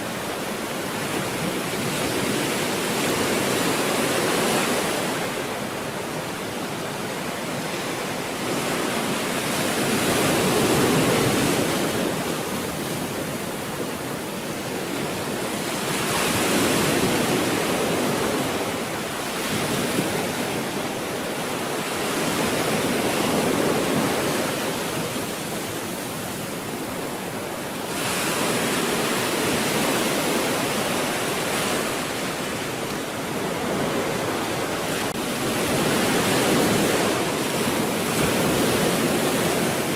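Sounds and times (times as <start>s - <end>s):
stormy sea waves breaking: 0.0s - 39.9s.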